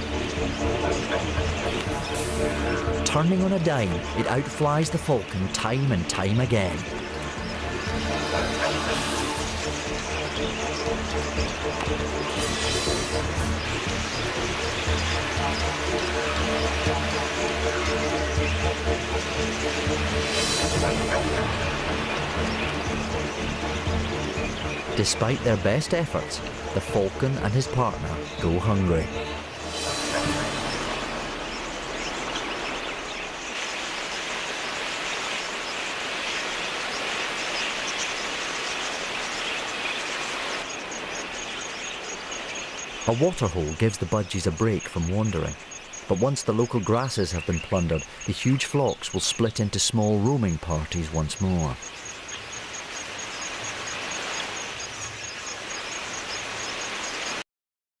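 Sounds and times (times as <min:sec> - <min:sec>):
flock of parakeets chattering: 0:00.0 - 0:57.2
steady hiss: 0:00.0 - 0:57.4.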